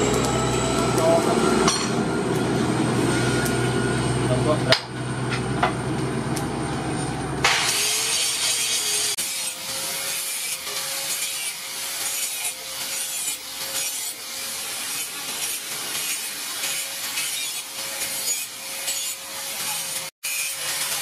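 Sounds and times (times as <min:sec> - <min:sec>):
angle grinder grinding steel: 0:00.0 - 0:04.5, 0:06.9 - 0:21.0.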